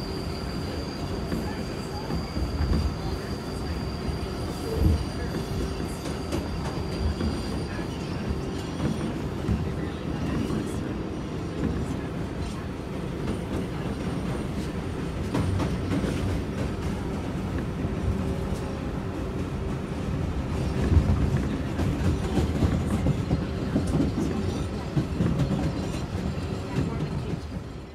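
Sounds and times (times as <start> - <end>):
train jolt: 0.0 - 27.9
train wheels rumbling on rail: 0.0 - 27.9.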